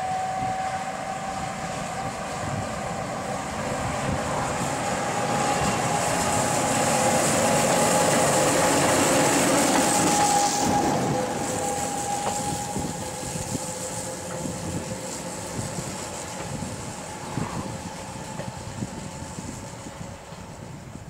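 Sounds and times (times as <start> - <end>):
diesel locomotive engine whine: 0.0 - 21.0.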